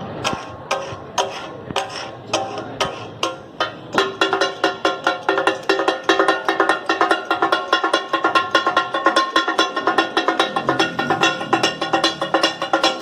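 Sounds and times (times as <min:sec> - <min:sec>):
metal spatulas clanging on griddle: 0:00.2 - 0:13.0.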